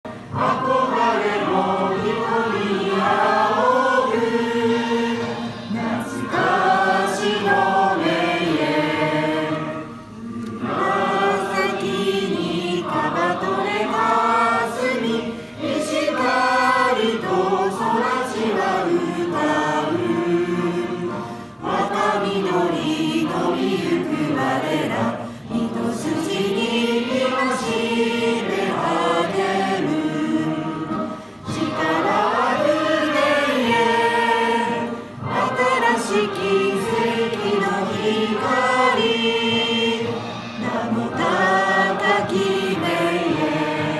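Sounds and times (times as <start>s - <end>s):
adult choir singing: 0.0s - 43.9s.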